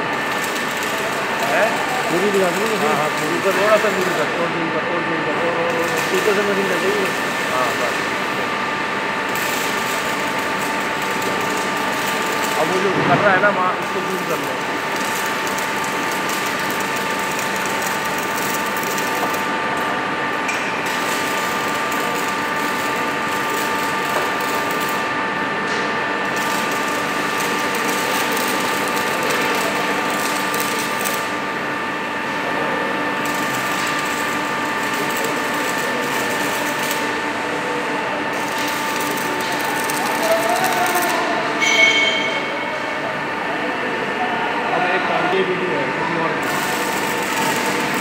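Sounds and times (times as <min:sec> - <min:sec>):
welding arc crackle: 0:00.0 - 0:41.6, 0:46.4 - 0:48.0
high machine whine: 0:00.0 - 0:48.0.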